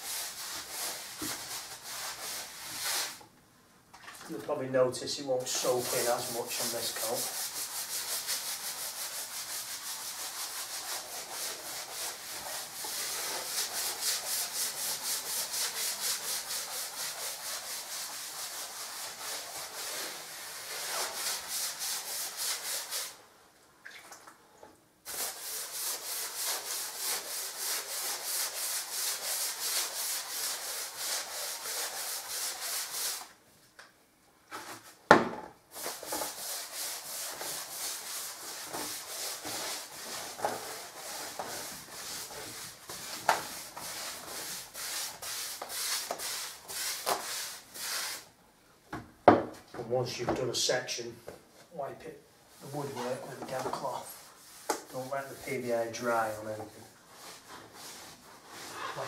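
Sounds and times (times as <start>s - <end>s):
brush scrubbing on plaster: 0.0s - 3.2s, 5.3s - 23.2s, 25.0s - 33.3s, 35.7s - 48.3s, 52.5s - 59.0s.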